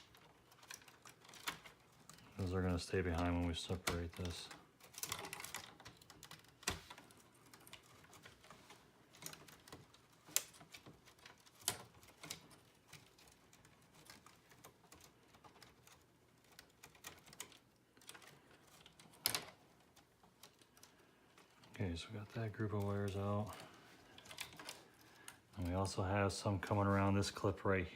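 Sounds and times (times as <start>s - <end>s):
plastic clicks and rattles: 0.0s - 25.9s.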